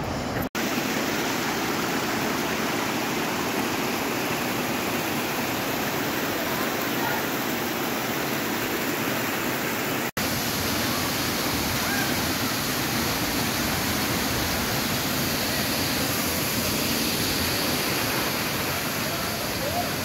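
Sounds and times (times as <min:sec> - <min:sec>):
creek cascading over rocks: 0:00.6 - 0:20.0
waterfall rushing: 0:00.6 - 0:20.0.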